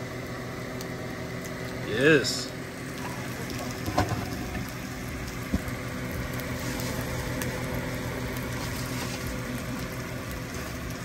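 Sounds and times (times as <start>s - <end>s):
food sizzling on a griddle: 0.0s - 11.0s
steady low hum: 0.0s - 11.0s.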